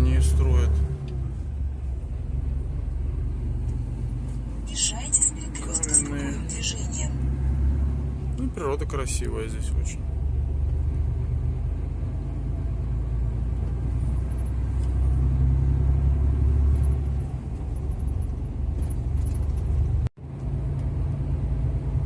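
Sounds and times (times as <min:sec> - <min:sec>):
truck engine and tyre drone: 0:00.0 - 0:22.0.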